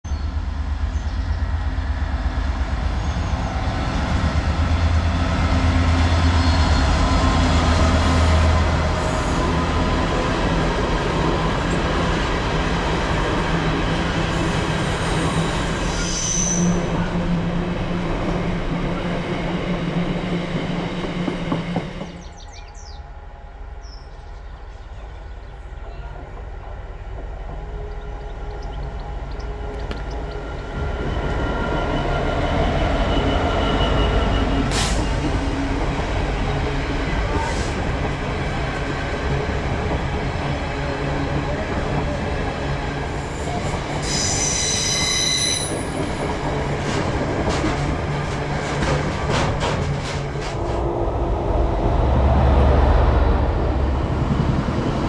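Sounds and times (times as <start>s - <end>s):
approaching train: 0.1s - 55.0s
diesel locomotive engine: 0.1s - 55.0s.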